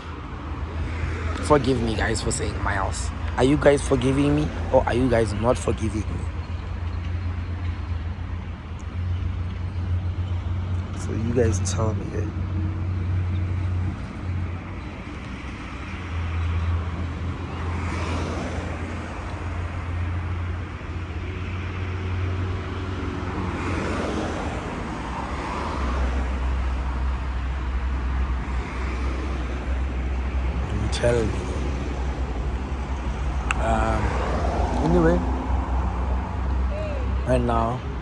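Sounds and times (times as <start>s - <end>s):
car engine hum: 0.0s - 38.0s
road noise: 0.0s - 38.0s.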